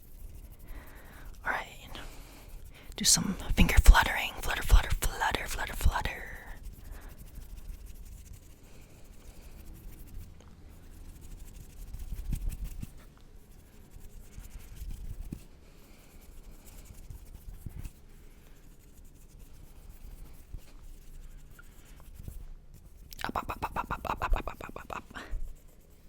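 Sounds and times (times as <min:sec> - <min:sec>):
hands rubbing near microphone: 0:02.5 - 0:13.1, 0:13.8 - 0:26.0.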